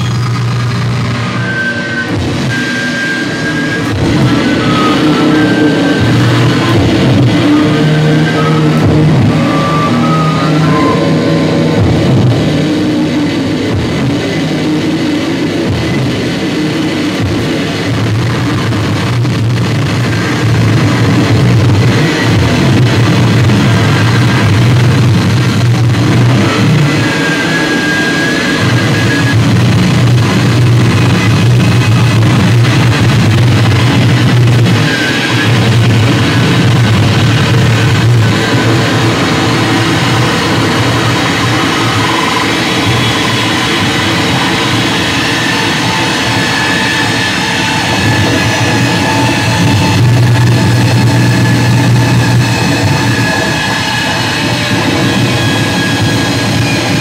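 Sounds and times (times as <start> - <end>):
distorted electric guitar: 0.0 - 57.0
electric bass drone: 0.0 - 57.0.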